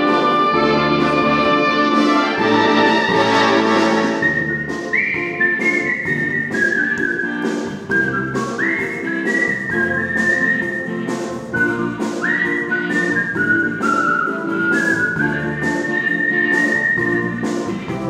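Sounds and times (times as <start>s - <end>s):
instrumental backing with beat: 0.0s - 18.0s
person whistling a melody: 3.0s - 18.0s.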